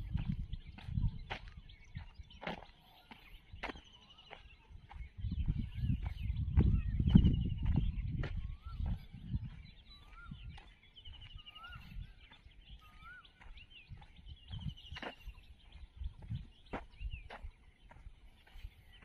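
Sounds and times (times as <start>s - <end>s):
bird trill: 0.0s - 19.0s.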